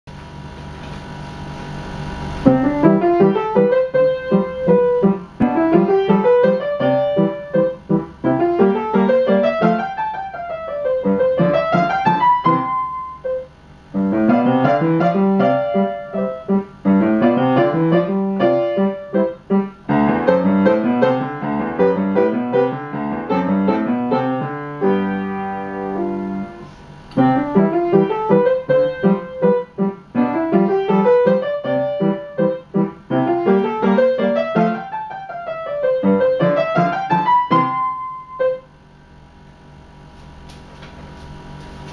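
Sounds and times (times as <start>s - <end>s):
piano playing scale patterns: 2.4s - 38.7s.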